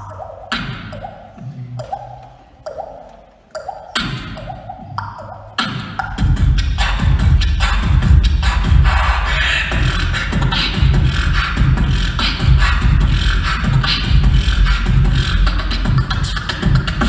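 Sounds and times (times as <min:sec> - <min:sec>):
beatboxing through a pa: 0:00.0 - 0:17.0.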